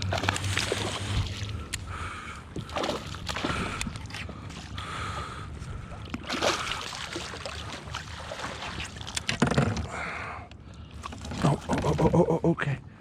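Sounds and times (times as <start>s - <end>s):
water sloshing around kayak: 0.0s - 12.2s.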